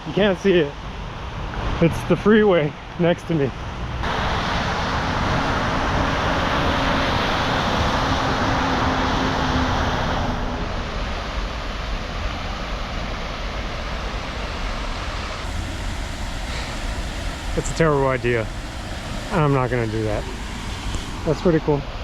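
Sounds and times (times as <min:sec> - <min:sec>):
freeway traffic rushing: 0:00.0 - 0:22.0.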